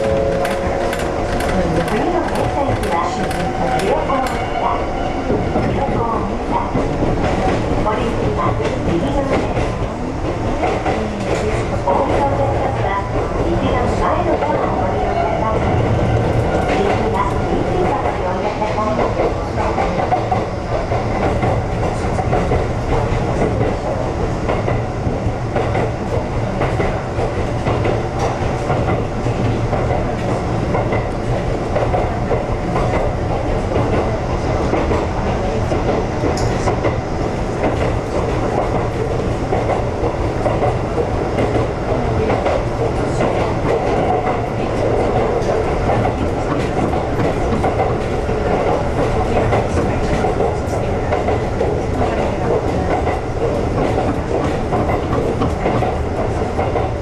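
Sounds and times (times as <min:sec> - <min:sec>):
train wheel-on-rail running noise: 0:00.0 - 0:57.0.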